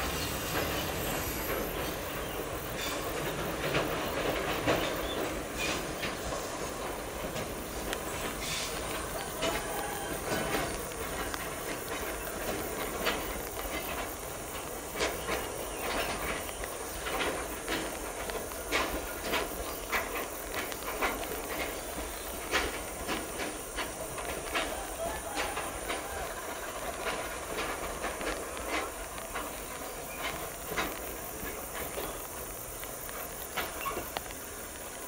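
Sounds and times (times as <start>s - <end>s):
steady hiss: 0.0s - 35.0s
train wheels clacking over rail joints: 0.0s - 35.0s.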